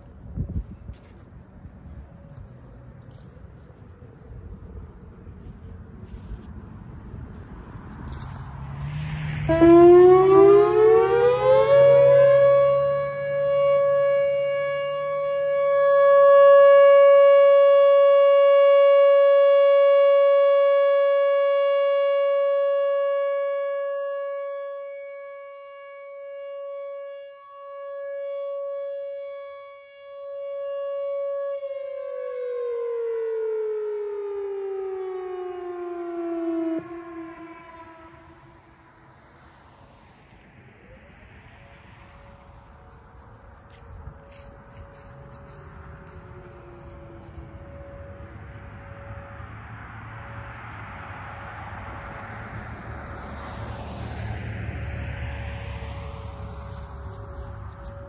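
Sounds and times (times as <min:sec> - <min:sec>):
warning siren tone: 0:00.0 - 0:58.0.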